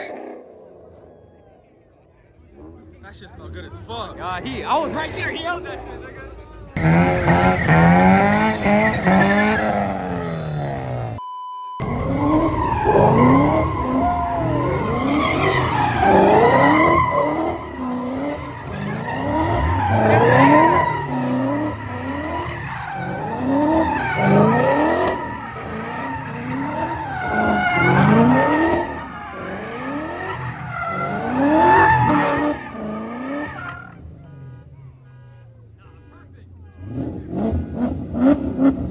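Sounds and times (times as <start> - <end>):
tyres skidding and squealing: 0.0 - 11.2, 11.8 - 38.9
car engine revving hard: 2.5 - 11.2, 11.8 - 34.6, 36.8 - 38.9.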